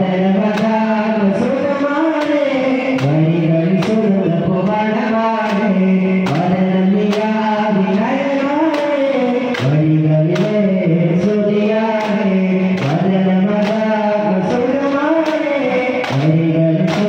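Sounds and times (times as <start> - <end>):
group singing in unison: 0.0 - 17.0
frame drums beating: 2.1 - 17.0.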